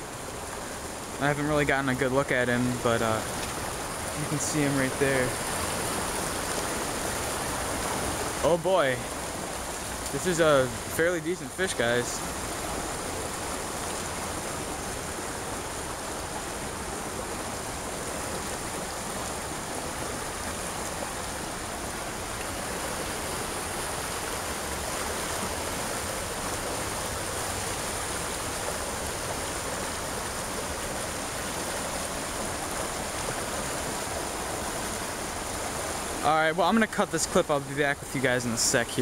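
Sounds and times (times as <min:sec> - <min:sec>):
creek water flowing: 0:00.0 - 0:39.0.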